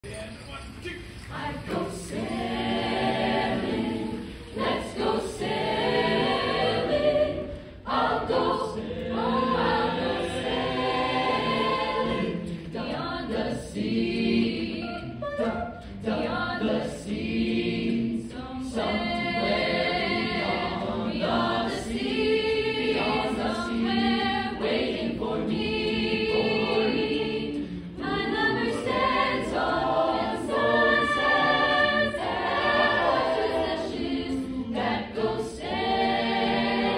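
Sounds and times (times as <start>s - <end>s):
mixed-voice choir singing: 1.0s - 36.9s.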